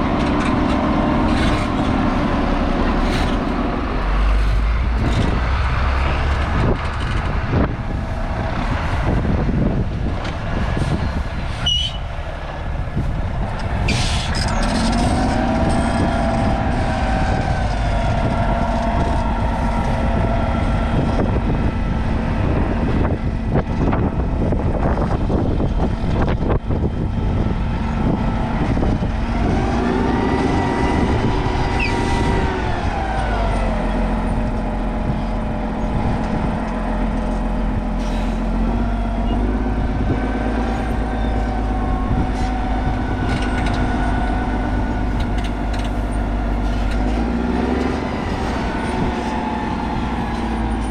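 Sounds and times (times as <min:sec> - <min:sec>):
diesel farm machinery engine: 0:00.0 - 0:50.9.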